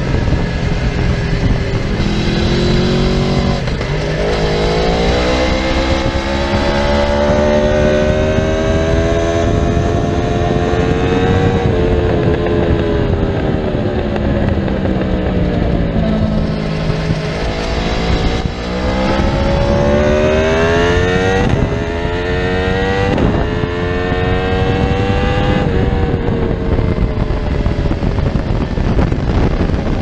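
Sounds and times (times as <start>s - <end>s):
motorcycle engine accelerating: 0.0s - 30.0s
wind and road noise: 0.0s - 30.0s.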